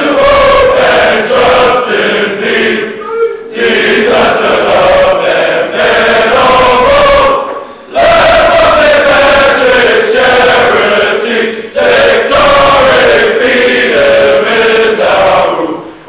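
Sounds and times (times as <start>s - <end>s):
boys choir singing: 0.0s - 16.0s.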